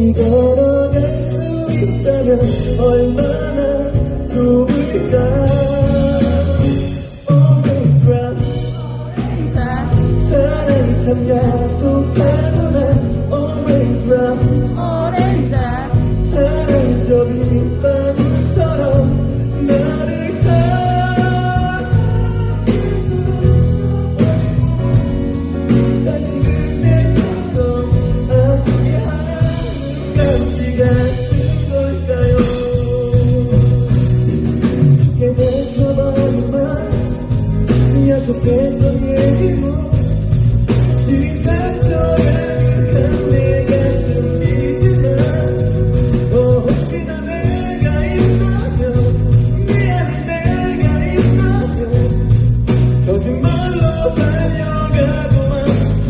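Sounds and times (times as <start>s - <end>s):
live band music: 0.0s - 56.0s.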